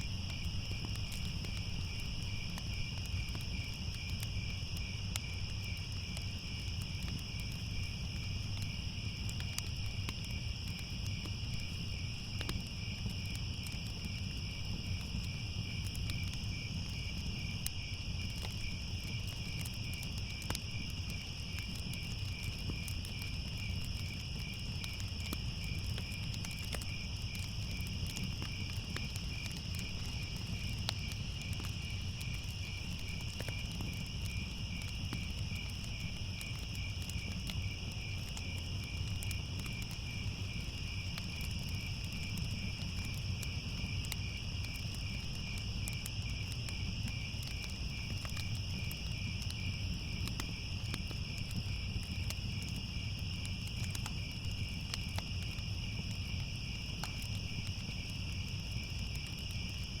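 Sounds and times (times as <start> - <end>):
crickets chirping: 0.0 - 60.0
faint crackles: 0.0 - 60.0.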